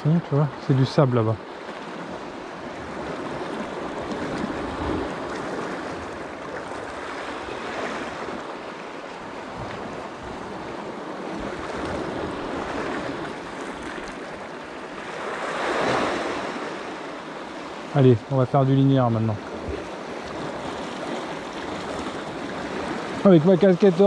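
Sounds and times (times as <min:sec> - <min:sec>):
sea waves washing onto shore: 0:00.0 - 0:24.0.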